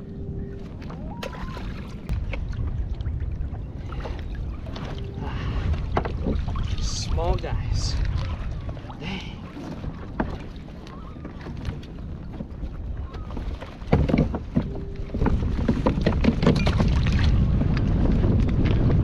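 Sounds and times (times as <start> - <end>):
wind rumbling on microphone: 0.0 - 19.0
water splashing: 0.5 - 18.5.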